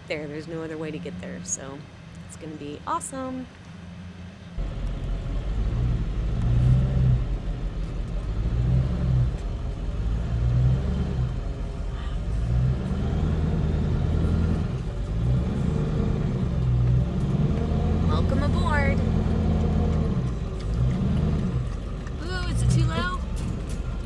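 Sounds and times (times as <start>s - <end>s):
road noise: 0.0s - 24.0s
truck engine rumble: 0.0s - 24.0s.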